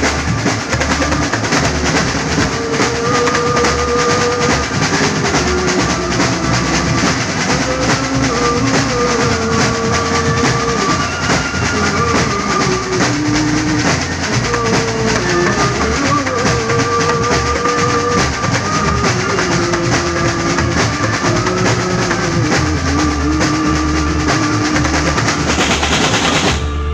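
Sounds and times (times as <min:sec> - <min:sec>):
busy drum kit: 0:00.0 - 0:26.9
instrumental band melody: 0:00.0 - 0:26.9.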